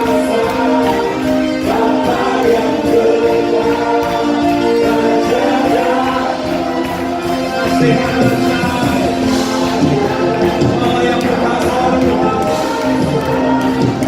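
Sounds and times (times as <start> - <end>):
band playing gospel music: 0.0 - 14.0
choir singing: 0.0 - 14.0.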